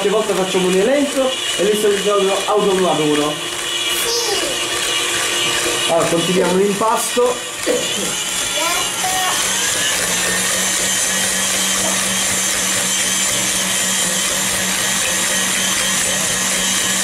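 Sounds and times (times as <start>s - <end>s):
stand mixer motor humming: 0.0s - 17.0s.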